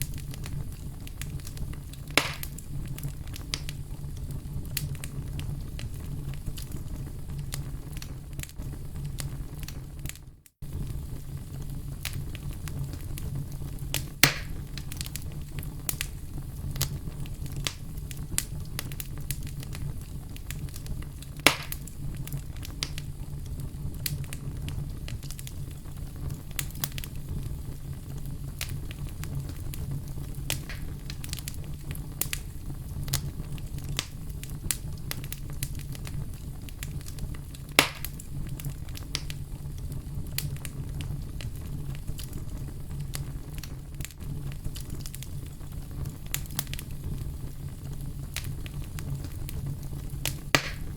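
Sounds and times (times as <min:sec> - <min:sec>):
loud fire pops: 0:00.0 - 0:50.9
wood fire crackling: 0:00.0 - 0:50.9.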